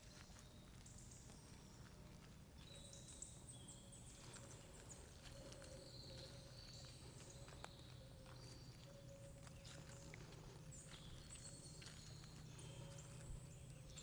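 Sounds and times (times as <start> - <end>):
low steady background rumble: 0.0 - 14.0.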